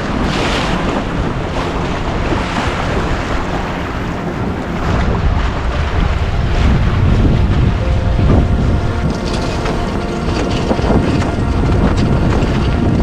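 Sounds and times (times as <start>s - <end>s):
water washing against hull: 0.0s - 13.0s
wind buffeting microphone: 0.0s - 13.0s.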